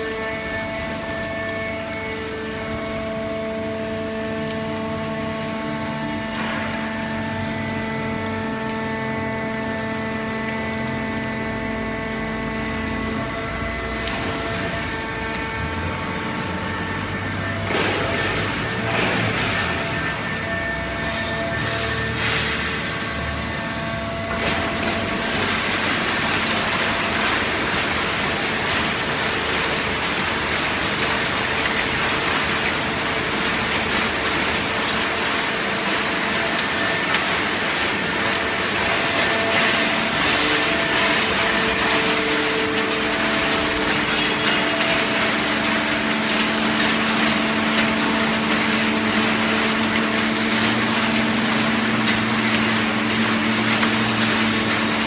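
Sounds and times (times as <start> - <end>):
hydraulic baling press running: 0.0 - 55.0
motor and pump hum: 0.0 - 55.0.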